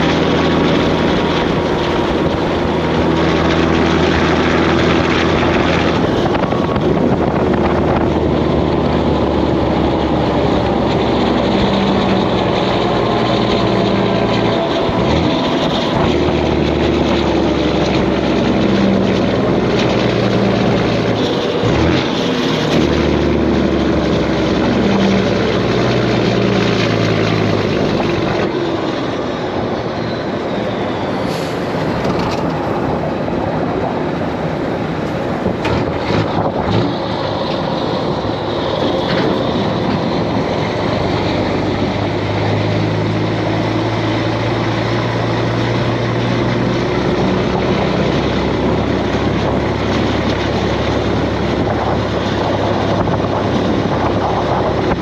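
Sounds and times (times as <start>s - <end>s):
road and wind noise: 0.0s - 55.0s
truck diesel engine running: 0.0s - 55.0s.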